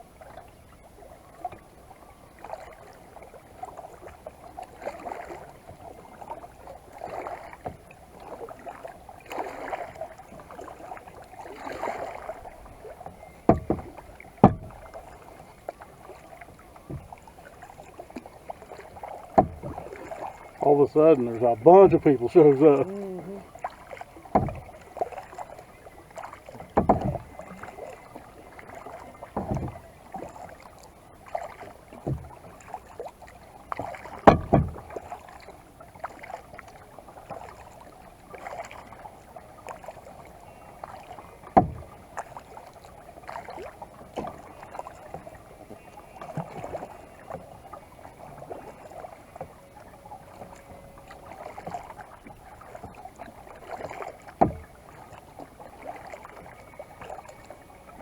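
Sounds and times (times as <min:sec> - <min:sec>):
paddle splashing in water: 0:00.0 - 0:58.0.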